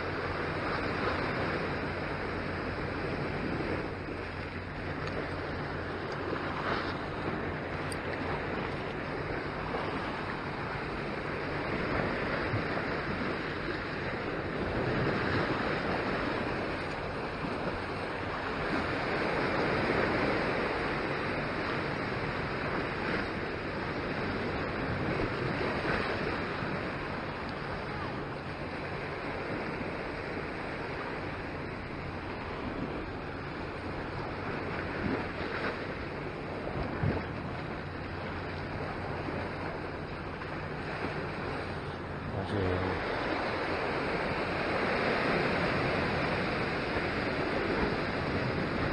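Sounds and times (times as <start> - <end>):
sea waves: 0.0 - 48.9
wind buffeting microphone: 0.0 - 48.9.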